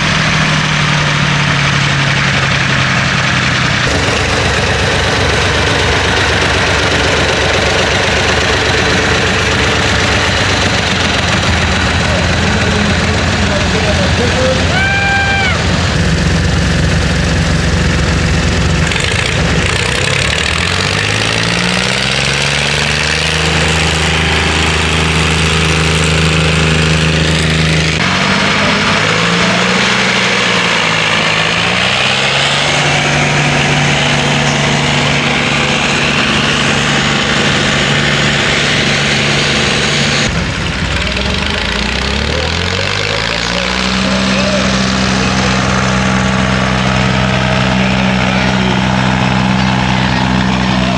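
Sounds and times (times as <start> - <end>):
tractor engines revving under load: 0.0 - 50.9.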